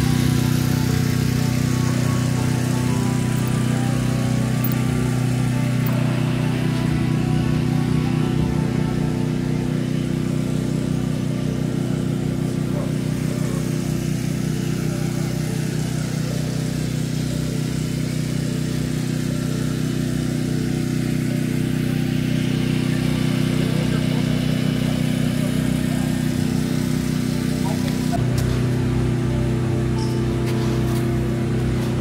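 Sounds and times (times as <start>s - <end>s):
engine running with low hum: 0.0s - 32.0s.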